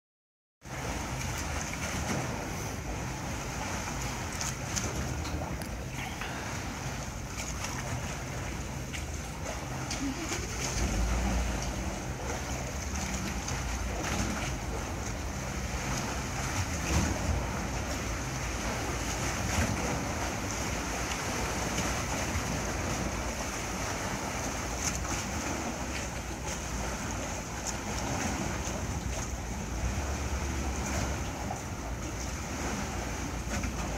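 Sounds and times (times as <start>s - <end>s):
water lapping against boat: 0.6s - 33.9s.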